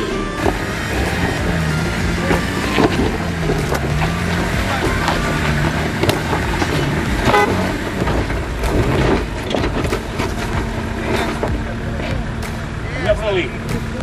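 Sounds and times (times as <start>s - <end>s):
engine labouring and revving: 0.0s - 14.0s
rocks knocking under wheels: 0.4s - 12.4s
tyres crunching over stones: 0.4s - 12.4s.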